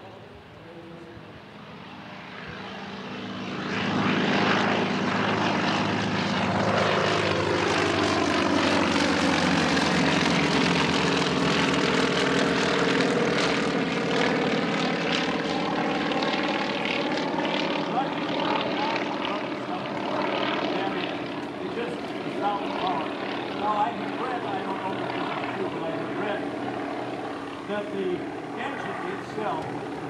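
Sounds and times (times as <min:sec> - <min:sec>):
propeller planes at full power: 0:00.0 - 0:30.0.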